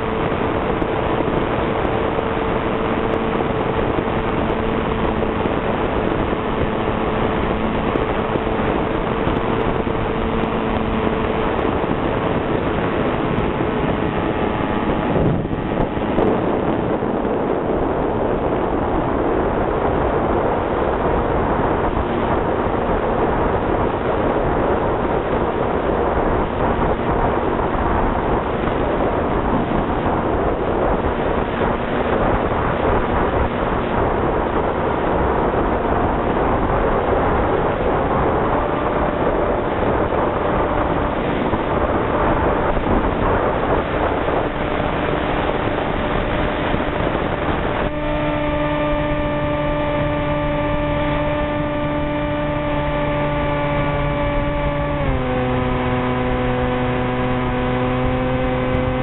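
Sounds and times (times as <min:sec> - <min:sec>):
model airplane motor droning: 0:00.0 - 0:59.0
wind rushing over microphone: 0:00.0 - 0:59.0.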